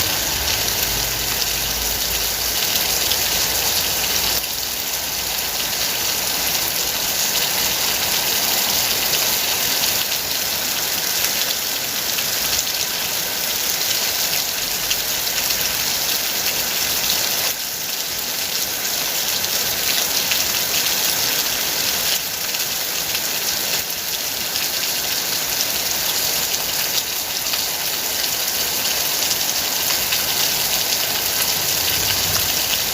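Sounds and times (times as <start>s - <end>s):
heavy rain: 0.0s - 32.9s.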